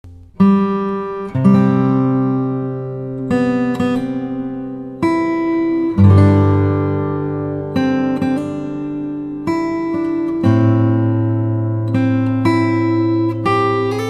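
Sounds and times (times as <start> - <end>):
slow acoustic guitar chords: 0.0 - 14.0.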